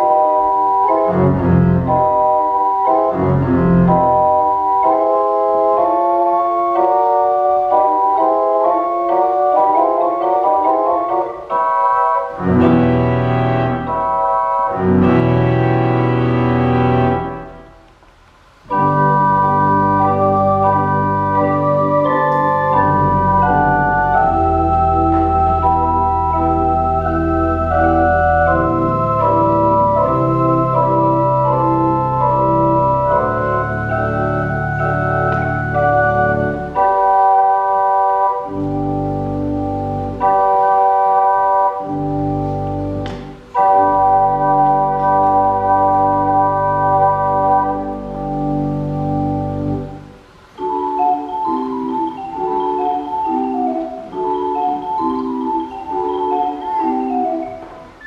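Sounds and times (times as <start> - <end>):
full organ low chords: 0.0 - 58.0
small wooden pipe organ: 0.0 - 58.0.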